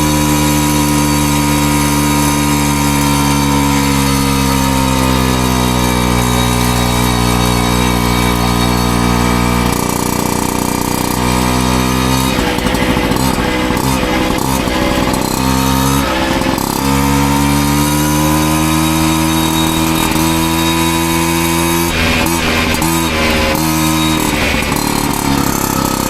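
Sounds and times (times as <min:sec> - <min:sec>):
moped engine running: 0:00.0 - 0:26.0.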